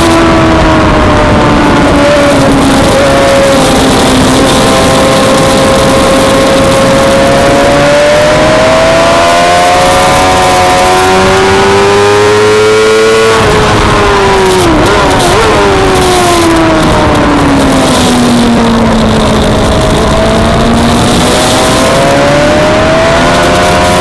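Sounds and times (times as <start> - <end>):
loud rush of noise: 0.0 - 24.0
race motorcycle engine running hard: 0.0 - 24.0.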